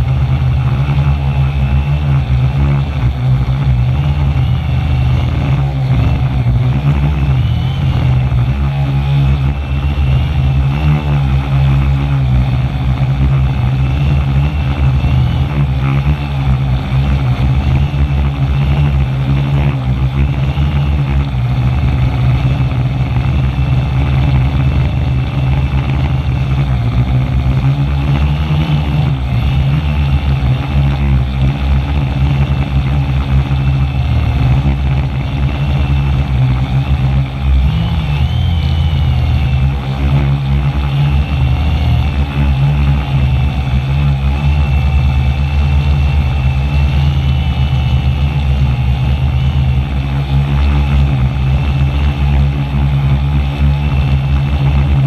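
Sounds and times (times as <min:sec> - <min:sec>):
drone motors humming: 0:00.0 - 0:55.0
propeller whine: 0:00.0 - 0:55.0.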